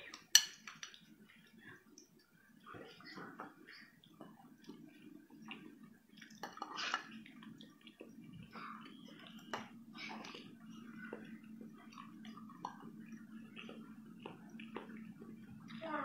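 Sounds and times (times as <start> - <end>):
low steady hum: 0.0 - 16.0
person eating wet food: 0.0 - 16.0.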